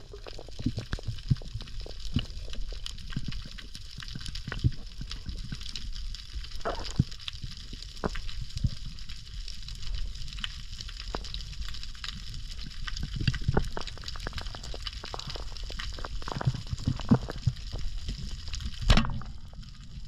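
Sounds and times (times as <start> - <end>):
crackle of underwater clicks: 0.0 - 20.0
low rumble of moving water: 0.0 - 20.0.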